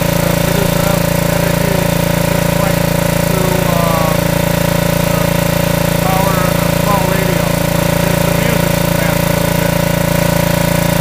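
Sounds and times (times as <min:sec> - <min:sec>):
small engine running steadily: 0:00.0 - 0:11.0.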